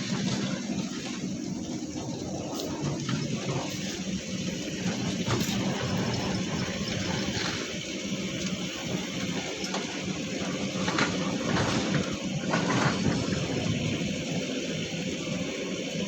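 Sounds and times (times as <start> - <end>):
heavy machinery engine humming: 0.0 - 16.0.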